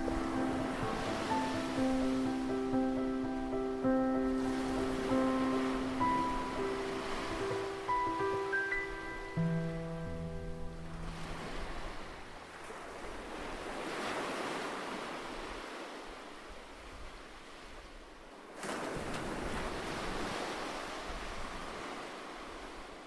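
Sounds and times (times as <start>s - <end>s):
waves washing in: 0.0s - 23.0s.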